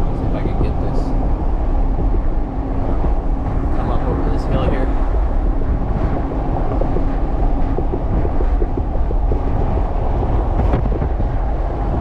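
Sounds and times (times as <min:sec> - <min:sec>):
engine and road noise: 0:00.0 - 0:12.0
wind buffeting microphone: 0:00.0 - 0:12.0.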